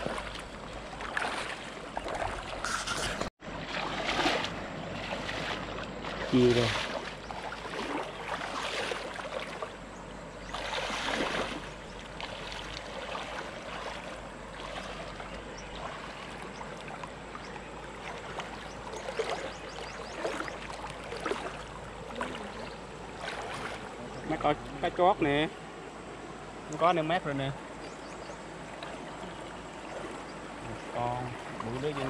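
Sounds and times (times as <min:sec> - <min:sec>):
stream flowing: 0:00.0 - 0:32.0
water splashing from wading: 0:00.0 - 0:32.0.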